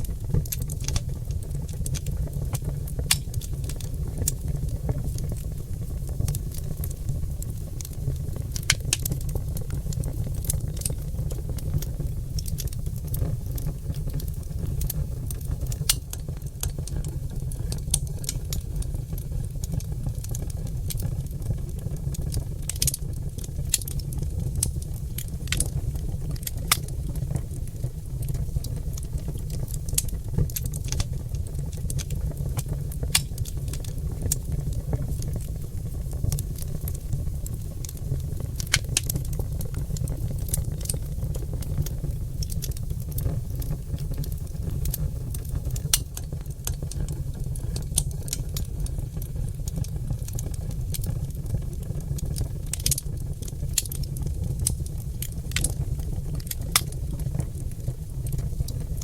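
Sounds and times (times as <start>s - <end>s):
logs crackling and popping: 0.0s - 59.0s
low fire rumble: 0.0s - 59.0s.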